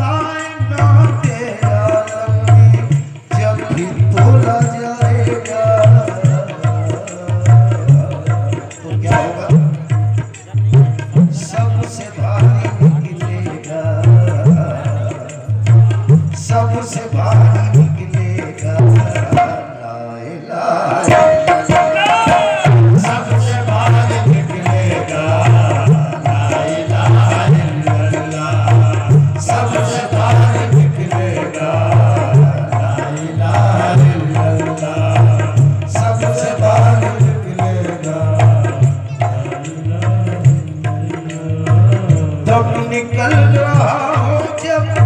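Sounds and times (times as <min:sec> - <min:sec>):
hand drums: 0:00.0 - 0:19.8, 0:21.0 - 0:45.0.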